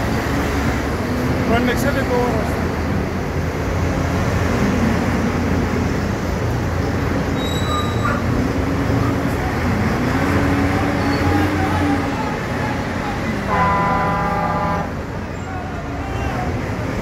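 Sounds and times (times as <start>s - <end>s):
truck diesel engines revving: 0.0s - 17.0s.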